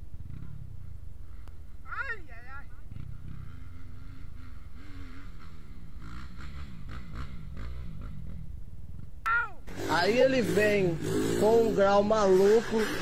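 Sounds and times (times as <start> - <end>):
motorcycle engine revving: 0.0 - 2.1, 2.7 - 13.0.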